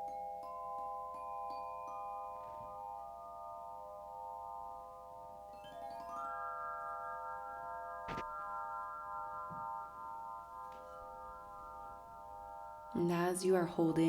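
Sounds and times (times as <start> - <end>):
crystal singing bowls ringing: 0.0 - 14.0.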